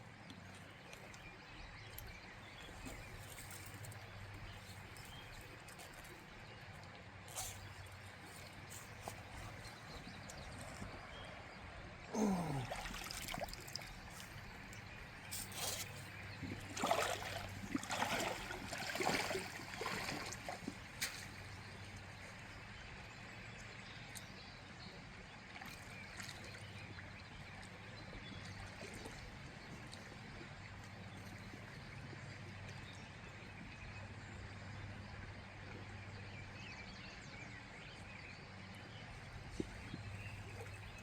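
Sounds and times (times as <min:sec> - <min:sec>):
creek water trickling: 0:00.0 - 0:41.0.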